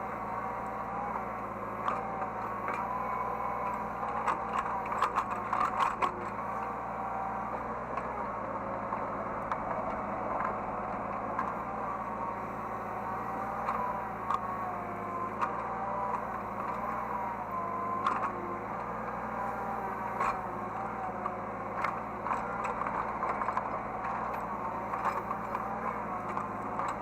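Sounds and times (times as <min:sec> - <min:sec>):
diesel engine running: 0:00.0 - 0:27.0
hydraulic whine: 0:00.0 - 0:27.0.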